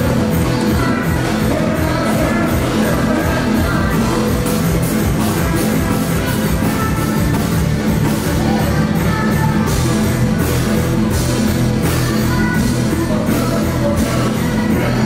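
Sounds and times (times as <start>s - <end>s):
live band music through pa: 0.0s - 15.0s.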